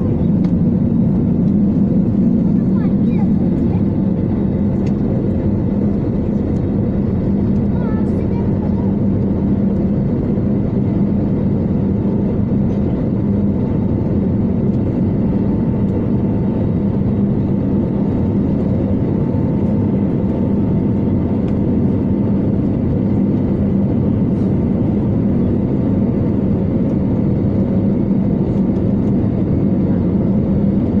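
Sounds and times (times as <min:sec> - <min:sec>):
aircraft engines droning: 0:00.0 - 0:31.0
low hum: 0:00.0 - 0:31.0.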